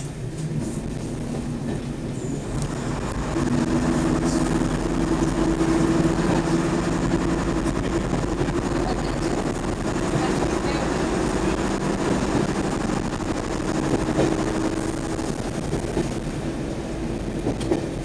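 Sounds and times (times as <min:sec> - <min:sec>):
diesel engine running: 0:00.0 - 0:18.0
wheel on rail rumble: 0:00.0 - 0:18.0.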